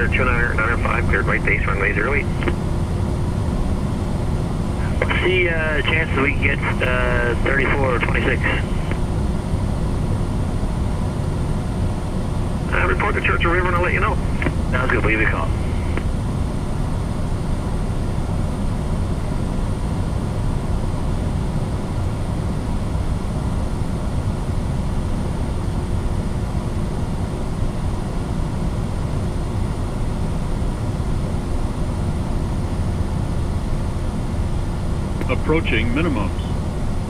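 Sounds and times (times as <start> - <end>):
airflow rushing over aircraft: 0.0 - 37.0
jet engines humming: 0.0 - 37.0.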